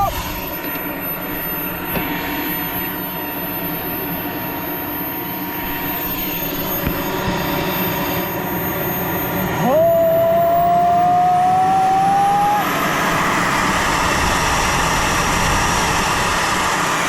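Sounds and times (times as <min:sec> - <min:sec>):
model jet turbine engine running: 0:00.0 - 0:17.0.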